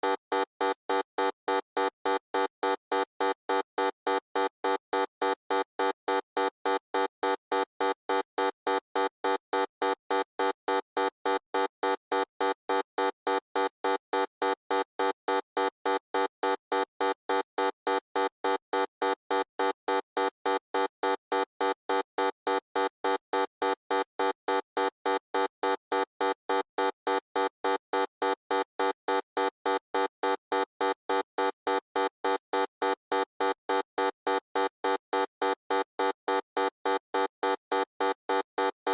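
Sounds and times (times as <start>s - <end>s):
electronic buzzer beeping: 0.0s - 38.9s.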